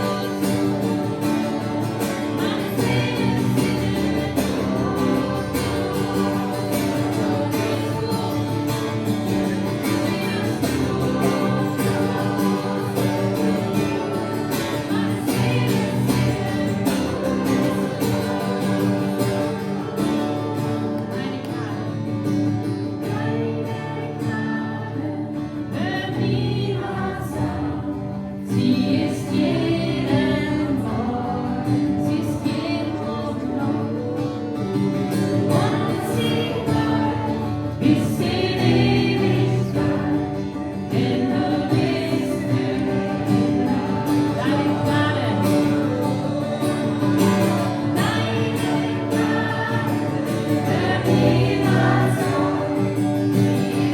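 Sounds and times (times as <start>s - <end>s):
group of voices singing: 0.0s - 53.9s
guitar accompaniment: 0.0s - 53.9s.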